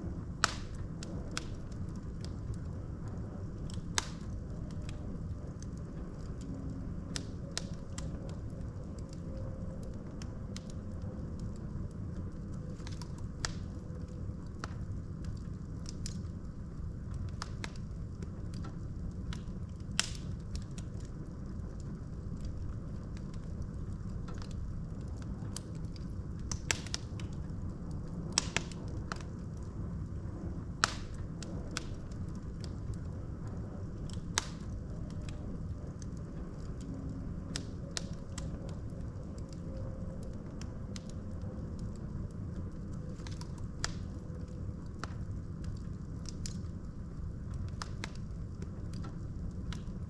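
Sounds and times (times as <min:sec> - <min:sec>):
fire crackles and pops: 0:00.0 - 0:50.0
low rumble of flames: 0:00.0 - 0:50.0.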